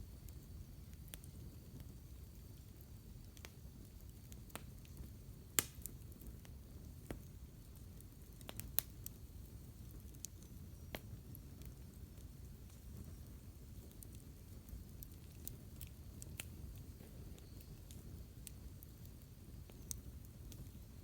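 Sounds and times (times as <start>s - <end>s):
campfire crackling and popping: 0.2s - 21.0s.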